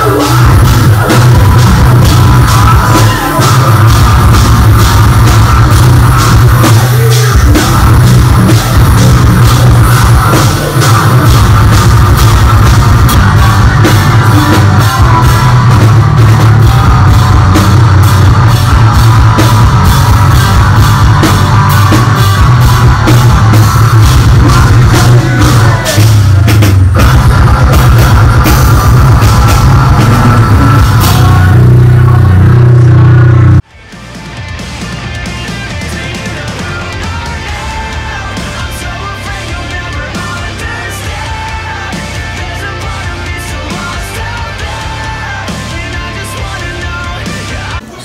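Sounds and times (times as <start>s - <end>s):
drums hitting steady beat: 0.0s - 48.0s
metal band playing live: 0.0s - 48.0s.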